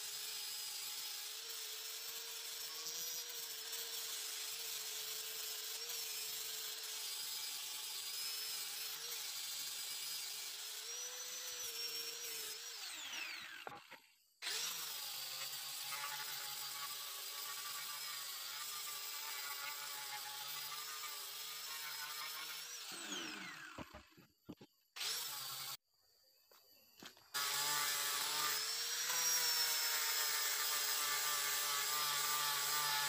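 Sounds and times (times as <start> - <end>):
angle grinder grinding wood: 0.0 - 25.8, 27.0 - 33.0.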